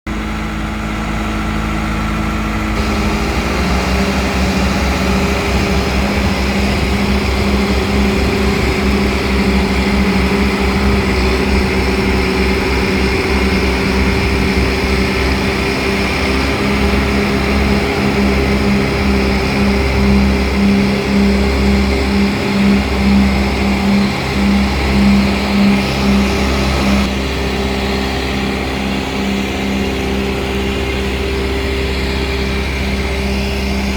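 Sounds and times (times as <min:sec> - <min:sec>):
backhoe diesel engine running: 0:00.1 - 0:33.9.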